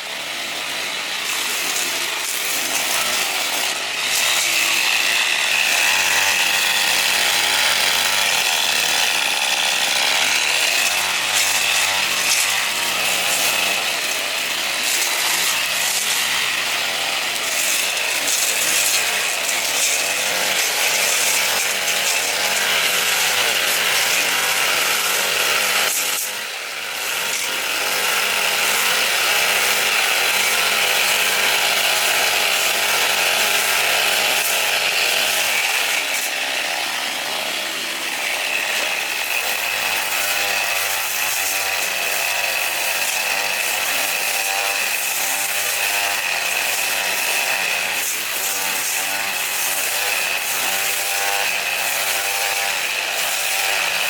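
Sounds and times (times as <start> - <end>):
power tool running under load: 0.0 - 54.0.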